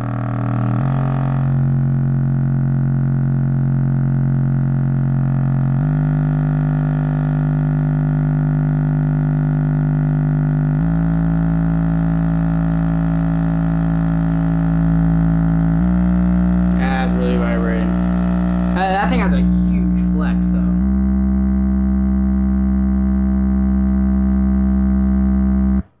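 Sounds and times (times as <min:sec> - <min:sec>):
subwoofer bass test tone: 0:00.0 - 0:26.0.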